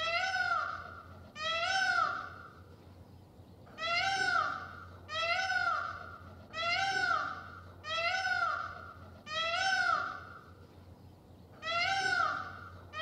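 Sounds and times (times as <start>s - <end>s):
peacock calling: 0.0s - 2.6s, 3.7s - 10.6s, 11.6s - 13.0s.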